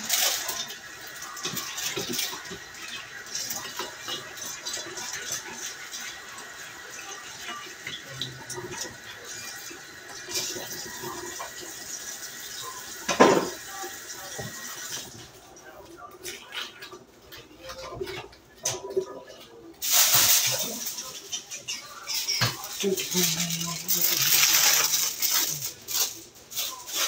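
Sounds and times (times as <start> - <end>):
kitchen clicks and clatter: 0.0 - 11.7, 16.2 - 27.0.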